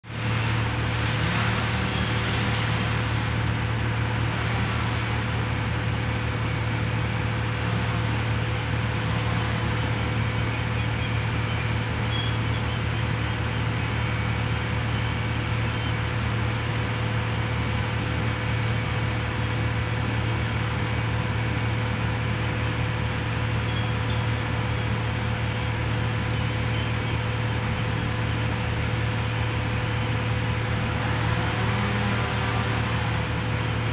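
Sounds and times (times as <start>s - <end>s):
low mechanical hum: 0.1s - 33.9s.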